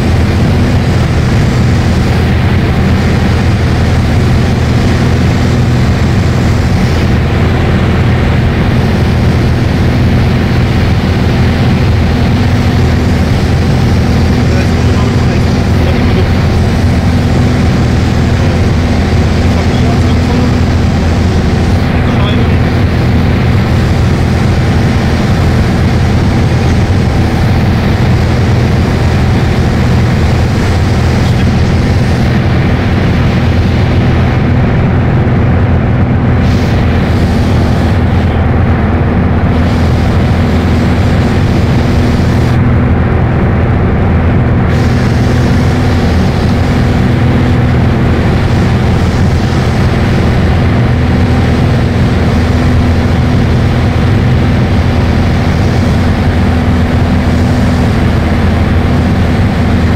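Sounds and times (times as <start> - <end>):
airplane engine droning in cabin: 0.0 - 59.9.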